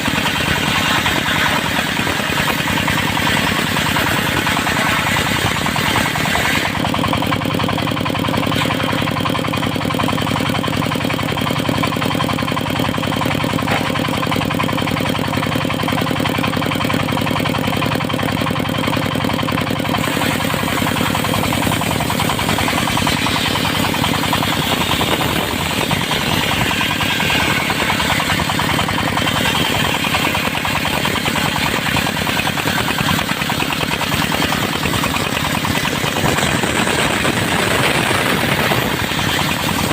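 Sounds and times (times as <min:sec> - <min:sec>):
saw blade cutting wood: 0:00.0 - 0:39.9
sawmill engine running: 0:00.0 - 0:39.9.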